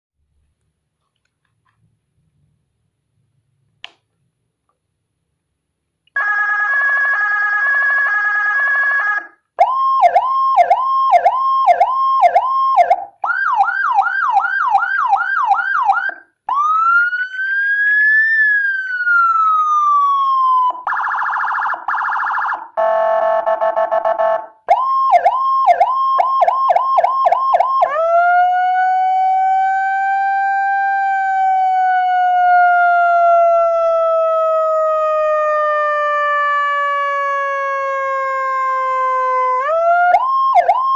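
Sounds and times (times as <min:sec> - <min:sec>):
electronic siren wailing: 0:06.2 - 0:40.9.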